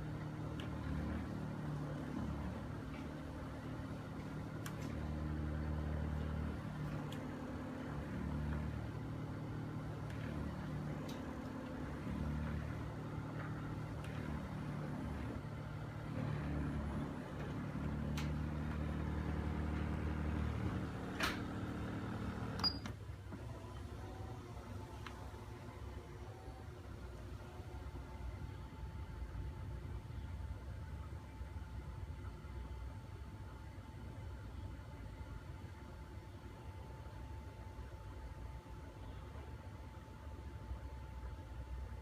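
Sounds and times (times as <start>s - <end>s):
massager motor hum: 0.0s - 42.0s.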